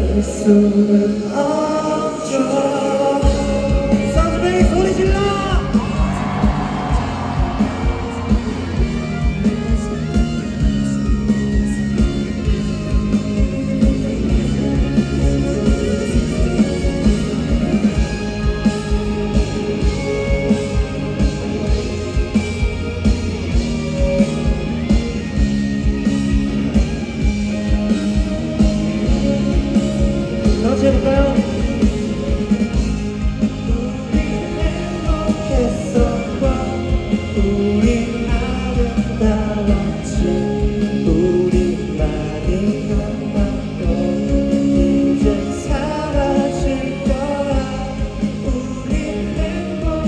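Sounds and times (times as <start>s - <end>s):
person singing: 0.0s - 25.4s, 27.7s - 50.0s
live rock band playing: 0.0s - 50.0s.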